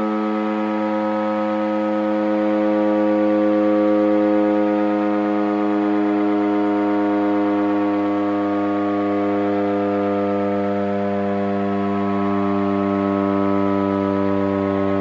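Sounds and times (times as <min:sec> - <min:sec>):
emergency siren tone: 0:00.0 - 0:15.0.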